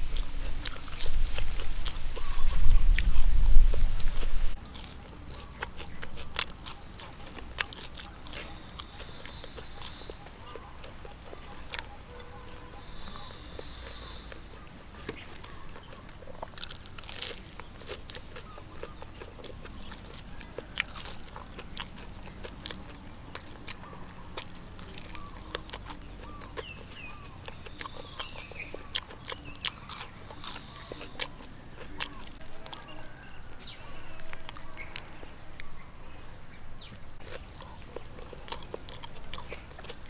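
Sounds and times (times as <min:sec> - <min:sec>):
crunching fried chicken: 0:00.0 - 0:35.9, 0:36.9 - 0:40.0.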